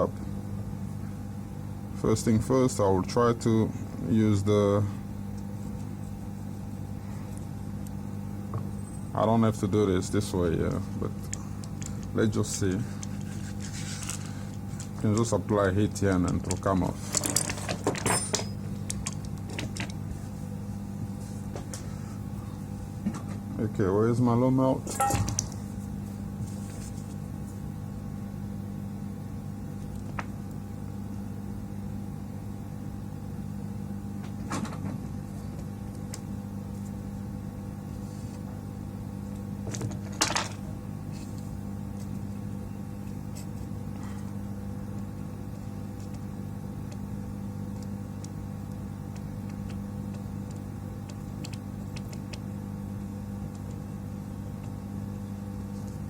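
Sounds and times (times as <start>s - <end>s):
fan humming: 0.0s - 56.0s.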